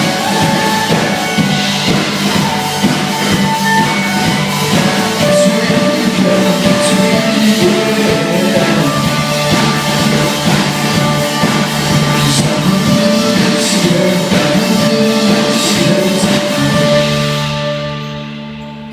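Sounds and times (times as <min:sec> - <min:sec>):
rock band playing: 0:00.0 - 0:18.9.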